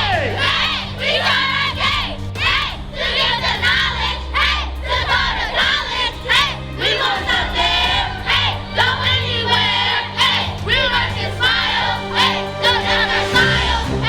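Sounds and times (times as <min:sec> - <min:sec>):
children shouting and cheering: 0:00.0 - 0:14.0
loud music with bass: 0:00.0 - 0:14.0.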